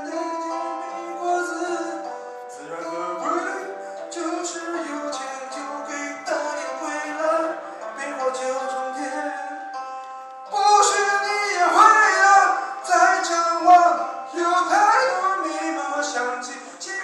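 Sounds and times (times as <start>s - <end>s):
backing track music: 0.0s - 17.0s
person singing: 0.0s - 17.0s.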